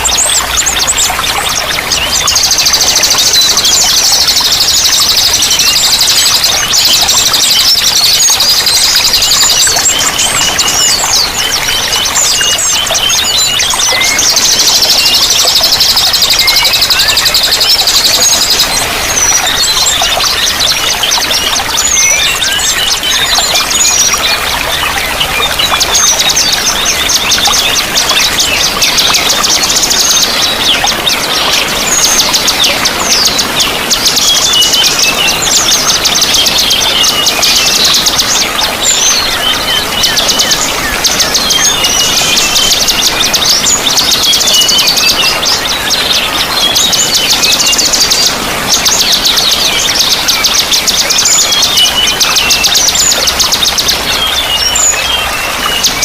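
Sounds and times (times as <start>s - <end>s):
running water: 0.0s - 56.0s
songbirds chirping: 0.0s - 56.0s.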